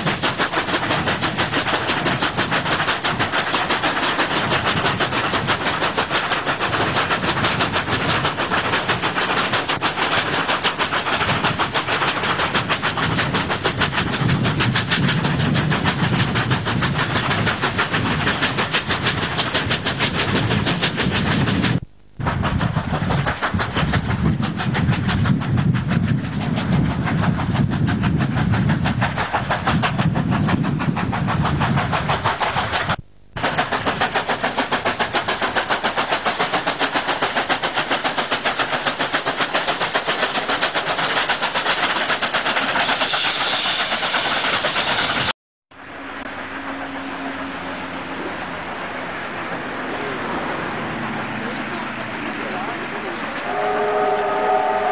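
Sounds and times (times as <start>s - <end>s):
steam locomotive exhaust beats: 0.0s - 54.9s.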